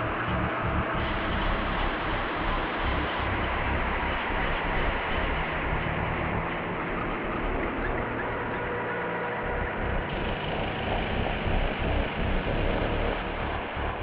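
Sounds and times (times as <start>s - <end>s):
dense rumbling noise: 0.0s - 14.0s.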